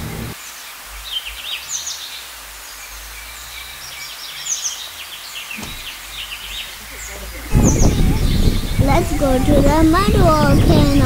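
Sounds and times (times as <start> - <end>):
small birds chirping: 0.0 - 11.0
steady background hiss: 0.0 - 11.0.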